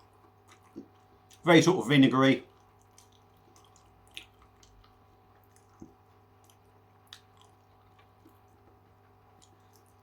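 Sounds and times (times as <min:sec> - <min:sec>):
faint chewing: 0:00.0 - 0:01.5, 0:02.4 - 0:10.0.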